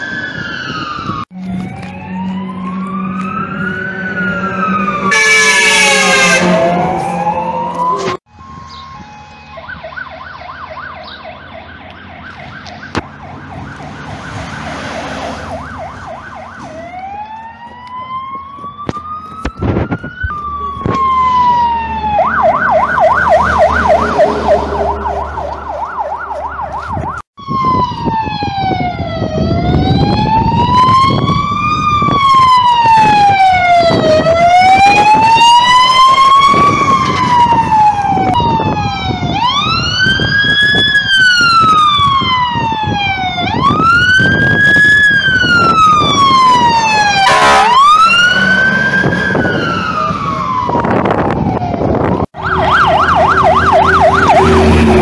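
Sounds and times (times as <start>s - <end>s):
fire engine sirens wailing: 0.0s - 55.0s
rumble of engines and traffic: 0.0s - 55.0s.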